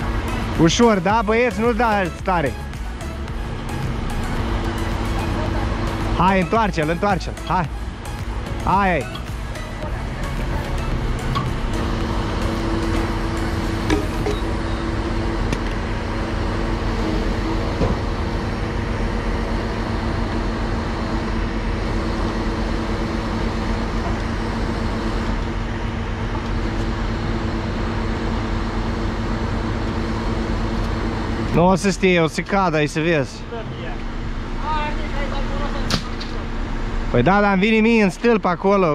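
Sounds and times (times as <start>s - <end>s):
crane engine and hydraulic hum: 0.0s - 38.9s.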